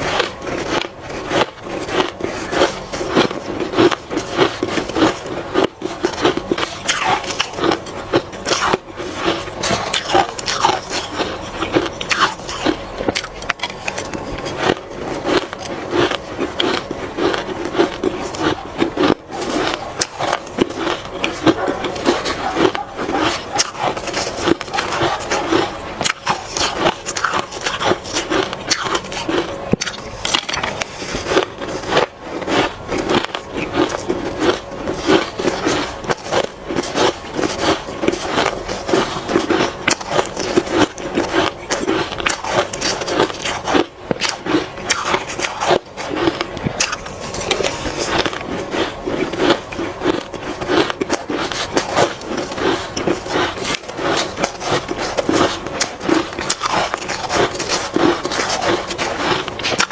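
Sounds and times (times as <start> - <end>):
ice being bitten and chewed: 0.0 - 59.9.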